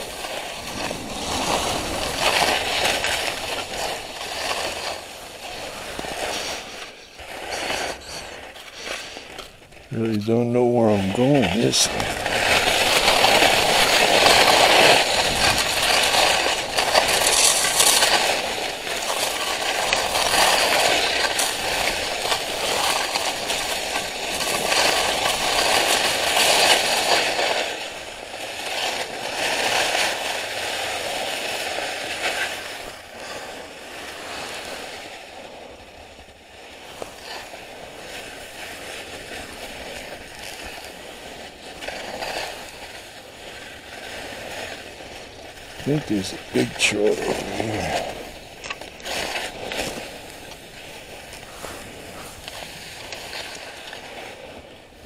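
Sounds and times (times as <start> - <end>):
skis hissing and scraping on snow: 0.0 - 55.0.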